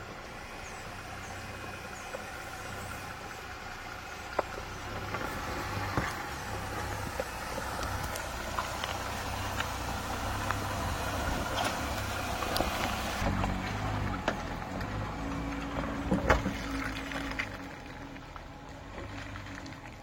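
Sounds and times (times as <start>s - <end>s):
engine running low: 0.0s - 20.0s
truck knocking and rattling: 0.0s - 20.0s.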